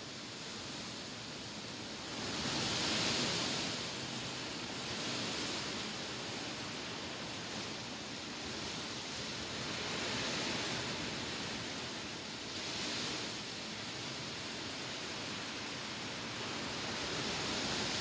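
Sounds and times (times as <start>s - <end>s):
wind rustling through grass: 0.0s - 18.0s.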